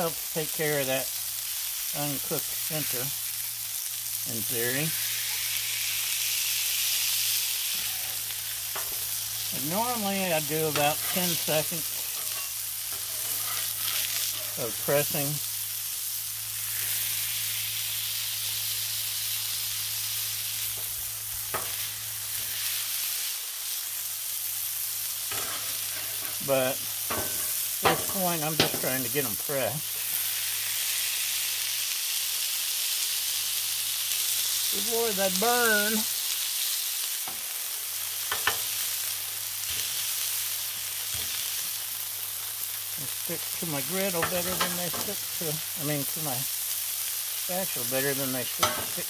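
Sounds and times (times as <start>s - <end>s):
patties sizzling on griddle: 0.0s - 49.0s.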